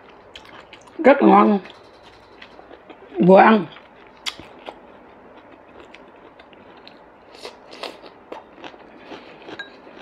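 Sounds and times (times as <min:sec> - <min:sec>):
person chewing food: 0:00.0 - 0:01.0, 0:01.6 - 0:10.0.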